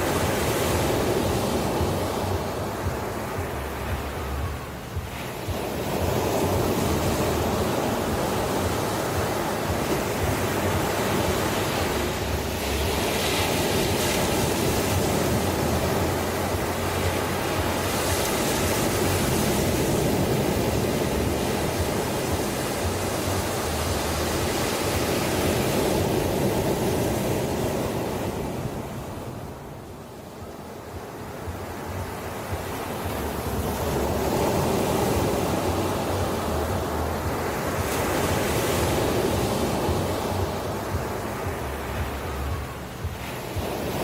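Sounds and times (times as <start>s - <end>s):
ocean waves washing on shore: 0.0s - 44.0s.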